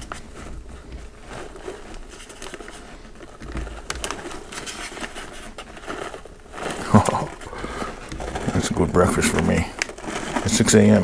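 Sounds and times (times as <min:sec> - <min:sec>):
plastic bag crinkling: 0:00.0 - 0:11.0
cheese shreds pattering onto pasta: 0:01.1 - 0:11.0.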